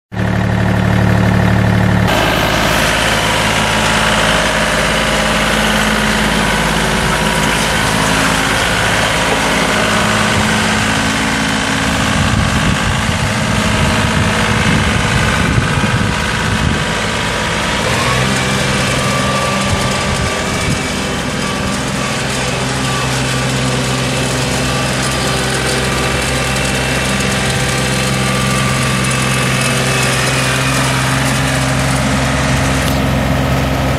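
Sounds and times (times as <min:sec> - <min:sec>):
diesel tractor engine idling: 0:00.2 - 0:33.9.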